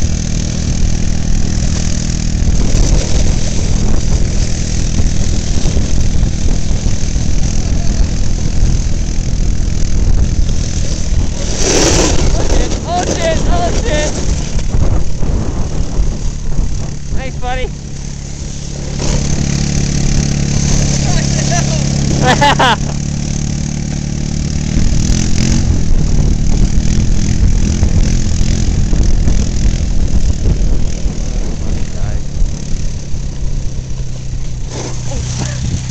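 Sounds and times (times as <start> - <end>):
atv engine idling: 0.0 - 35.9.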